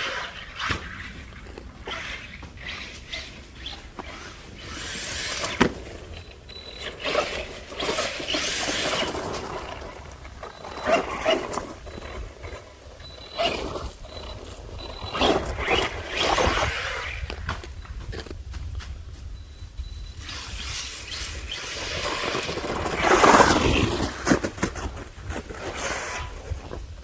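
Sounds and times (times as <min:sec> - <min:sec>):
tyres churning snow: 0:00.0 - 0:17.8, 0:20.2 - 0:27.0
rc truck motor whine: 0:00.0 - 0:18.3, 0:19.8 - 0:26.8.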